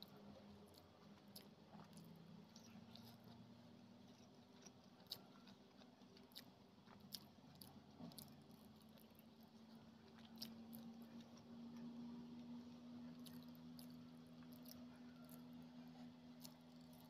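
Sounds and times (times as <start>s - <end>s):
person chewing with mouth clicks: 0.0s - 3.4s, 4.0s - 11.9s, 13.1s - 17.0s
low steady hum: 0.0s - 17.0s.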